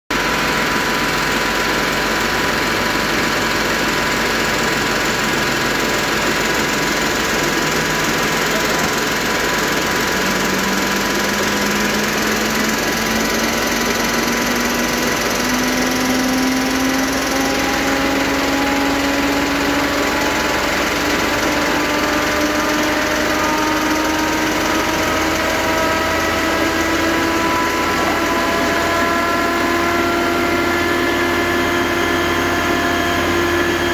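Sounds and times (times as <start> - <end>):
thickness planer planing wood: 4.4 - 33.9.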